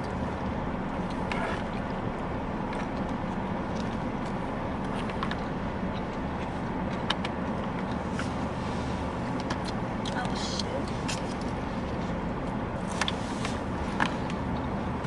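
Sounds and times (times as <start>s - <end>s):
car rumble inside cabin: 0.0s - 15.0s.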